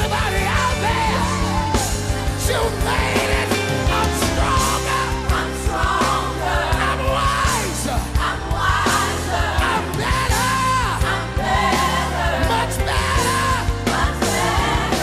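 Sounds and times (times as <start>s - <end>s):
band with drums and bass: 0.0s - 15.0s
gospel singing: 0.0s - 15.0s.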